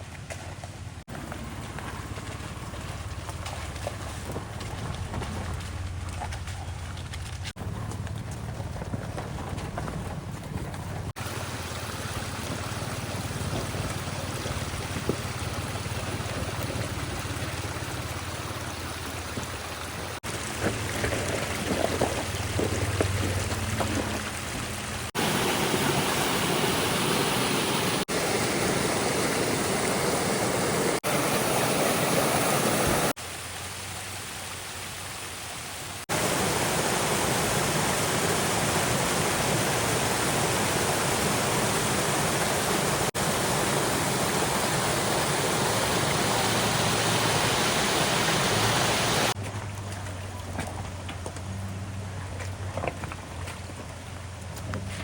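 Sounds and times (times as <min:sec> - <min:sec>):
stream water running and splashing: 0:00.0 - 0:10.0, 0:11.0 - 0:55.0.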